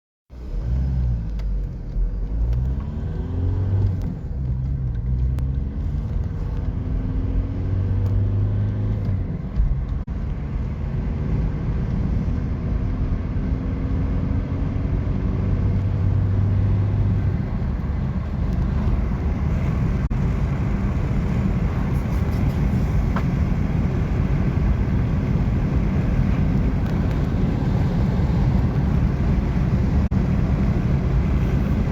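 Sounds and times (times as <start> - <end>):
car engine accelerating through gears: 0.3 - 31.9
road and wind noise: 0.3 - 31.9.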